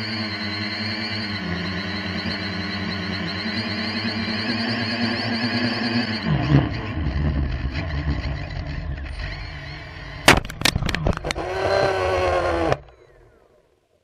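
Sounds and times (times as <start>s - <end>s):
steady pitched tone: 0.0s - 13.8s.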